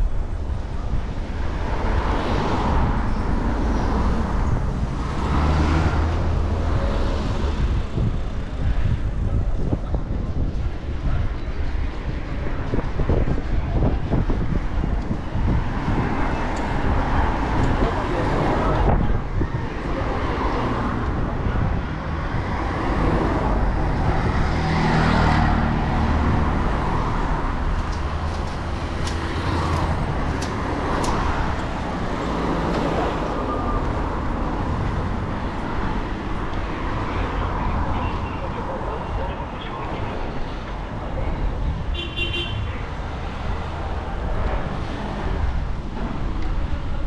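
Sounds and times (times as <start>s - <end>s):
vehicle engines in street traffic: 0.0s - 47.0s.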